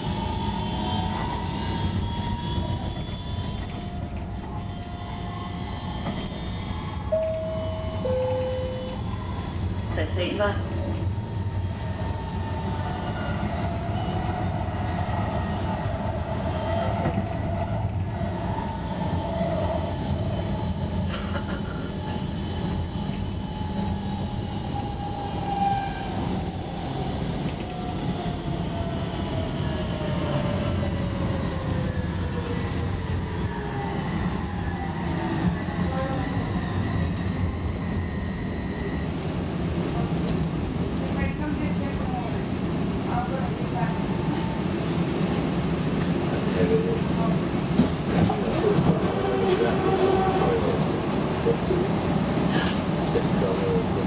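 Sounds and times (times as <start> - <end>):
train rumble inside car: 0.0 - 54.0.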